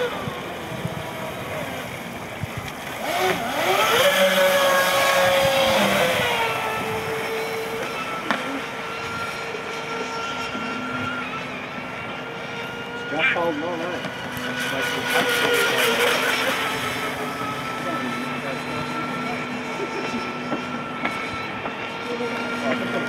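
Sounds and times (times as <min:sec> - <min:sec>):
rc boat motor whine: 0:00.0 - 0:23.0.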